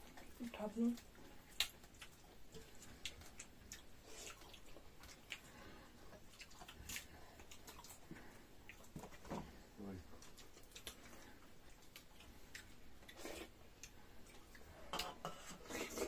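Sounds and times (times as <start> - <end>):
faint chewing clicks and smacks: 0.0 - 15.2.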